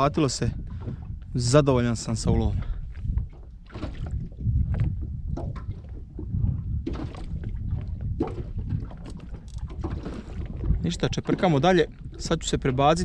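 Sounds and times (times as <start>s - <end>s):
water lapping against boat: 0.0s - 13.0s
wind rumbling on microphone: 0.0s - 13.0s.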